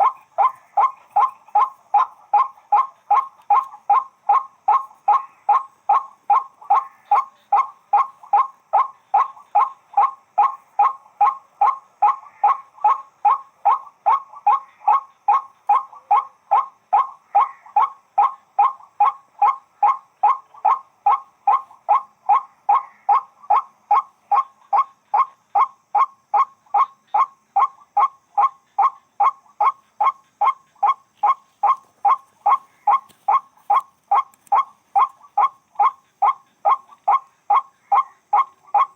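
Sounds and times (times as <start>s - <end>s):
bird calling harsh kwak: 0.0s - 38.9s.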